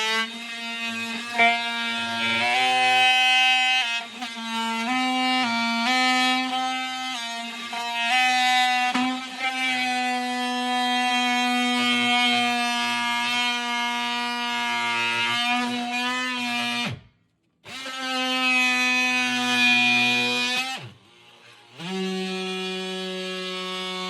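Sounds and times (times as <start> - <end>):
oscillating multi-tool buzzing: 0.0 - 17.0, 17.7 - 24.0.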